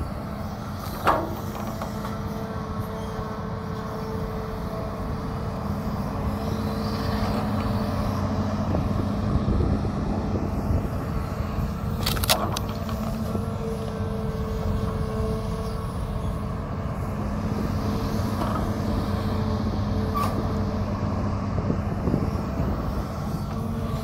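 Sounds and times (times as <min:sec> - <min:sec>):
excavator engine and hydraulics humming: 0:00.0 - 0:24.0.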